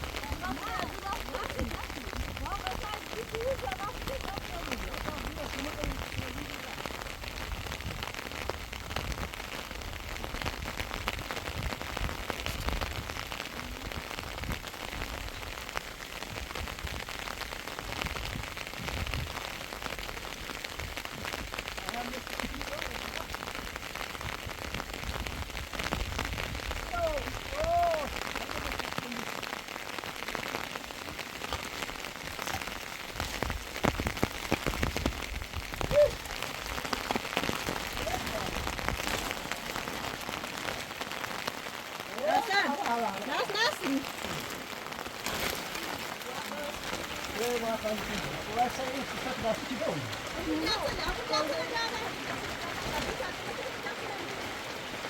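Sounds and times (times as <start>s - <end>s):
heavy rain falling: 0.0s - 55.0s
raindrop impacts: 0.0s - 55.0s.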